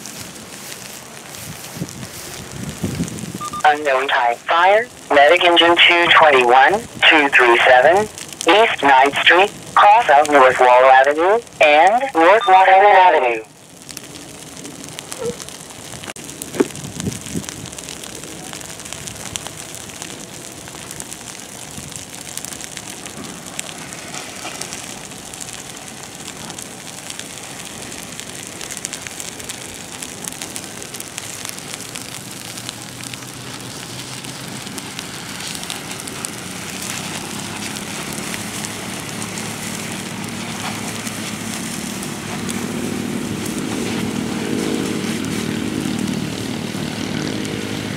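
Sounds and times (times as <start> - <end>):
dry grass burning and crackling: 0.0 - 47.9.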